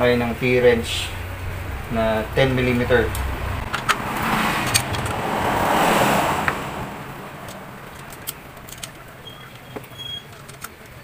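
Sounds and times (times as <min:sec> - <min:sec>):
rushing noise: 0:00.0 - 0:09.3.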